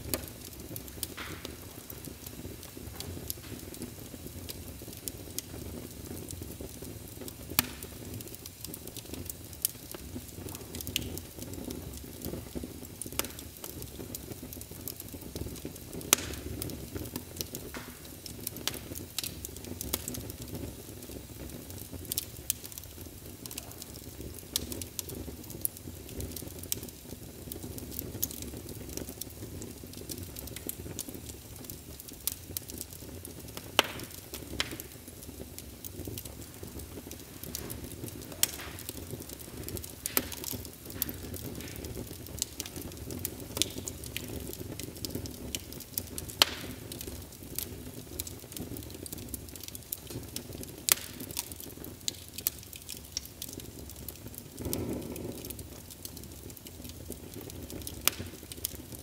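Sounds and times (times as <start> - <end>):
fire crackling with pops: 0.0 - 59.0.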